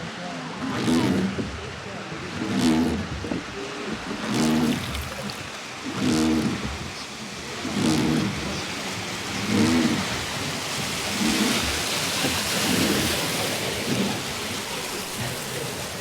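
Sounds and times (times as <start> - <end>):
river water rushing and splashing: 0.0 - 16.0
voices: 0.0 - 16.0.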